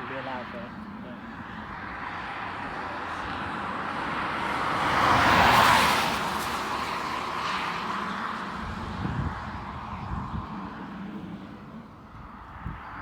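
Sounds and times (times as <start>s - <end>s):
jet airliner passing by: 0.0s - 13.0s.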